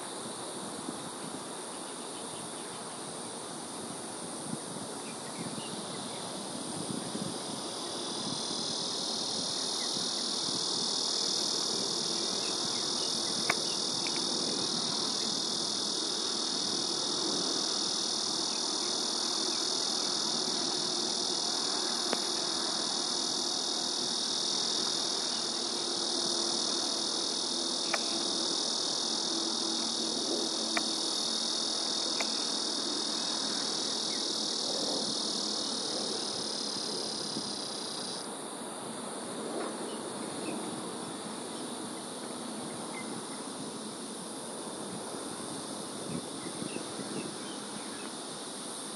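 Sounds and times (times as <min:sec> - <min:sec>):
insect chorus buzzing: 0:00.0 - 0:48.9.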